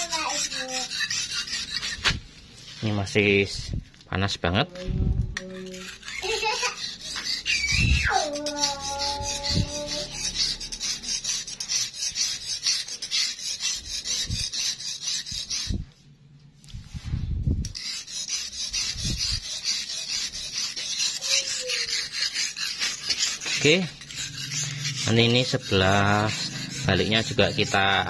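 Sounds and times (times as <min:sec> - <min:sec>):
knife scraping on whetstone: 0:00.0 - 0:02.2, 0:05.4 - 0:15.8, 0:17.6 - 0:28.0.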